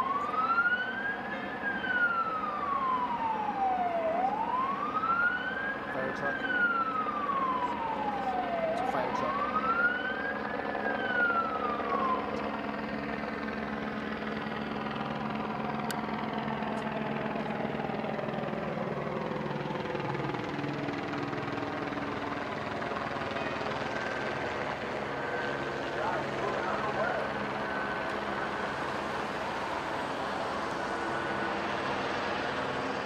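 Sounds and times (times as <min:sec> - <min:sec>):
emergency vehicle siren: 0:00.0 - 0:33.0
engine drone: 0:00.0 - 0:33.0.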